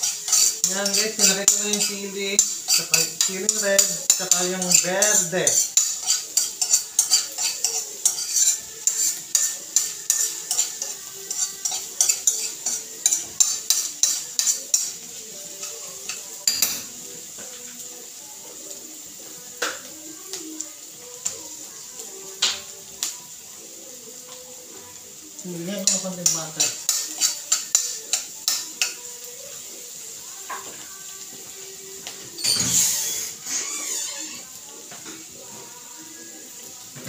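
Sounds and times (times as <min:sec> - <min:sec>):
food sizzling: 0:00.0 - 0:37.0.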